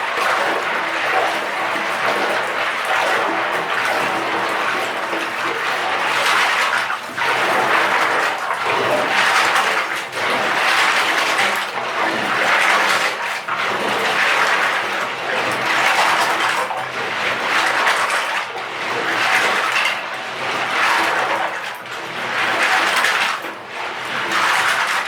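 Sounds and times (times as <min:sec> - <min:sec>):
tap water rushing: 0:00.0 - 0:25.0.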